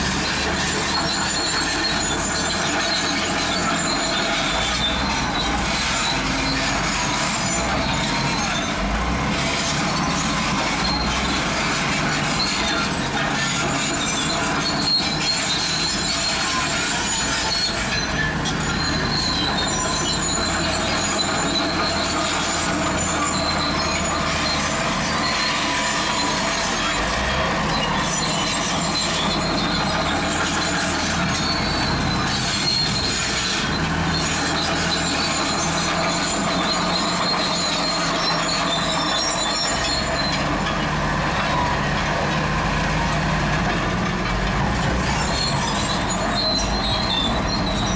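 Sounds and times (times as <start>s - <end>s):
bulldozer diesel engine under load: 0.0s - 47.9s
steel tracks squealing and clanking: 0.0s - 47.9s.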